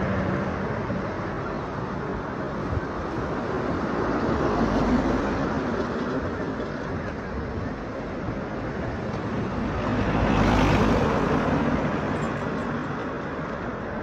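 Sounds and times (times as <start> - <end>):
passing road traffic: 0.0 - 14.0.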